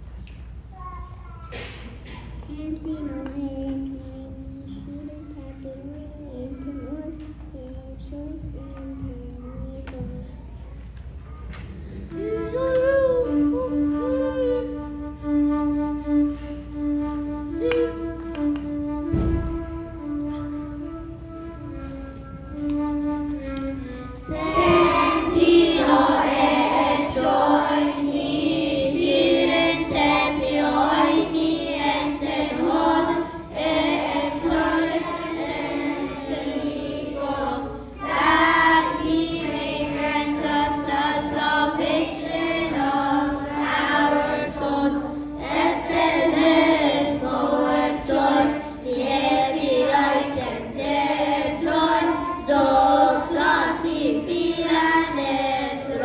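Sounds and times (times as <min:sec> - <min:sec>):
children's choir singing a hymn: 0:01.5 - 0:56.0.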